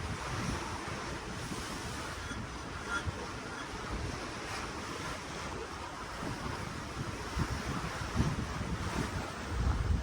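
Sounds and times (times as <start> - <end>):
ocean water washing: 0.0 - 10.0
wind gusting on microphone: 0.0 - 10.0.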